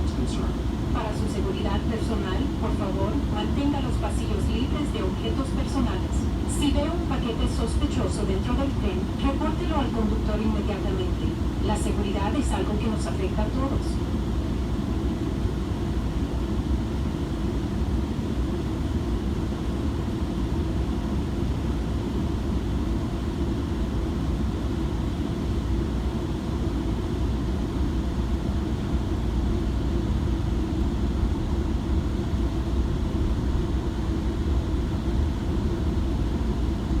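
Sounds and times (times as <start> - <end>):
low rumble inside train coach: 0.0 - 37.0.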